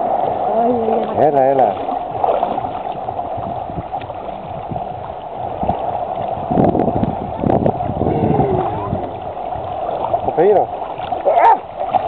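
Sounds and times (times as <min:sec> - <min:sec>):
splashes from wading legs: 0:00.0 - 0:07.3, 0:08.4 - 0:12.0
sea water lapping and sloshing: 0:00.0 - 0:12.0.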